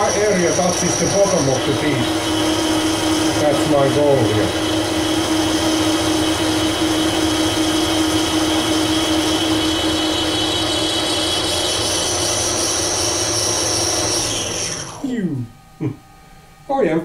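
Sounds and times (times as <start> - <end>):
higher whine: 0.0 - 17.0
metal lathe drive hum and whine: 0.0 - 17.0.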